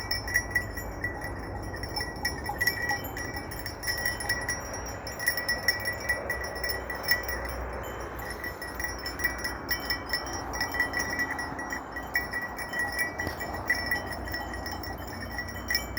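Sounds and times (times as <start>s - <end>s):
sheep bells clinking: 0.0s - 15.9s.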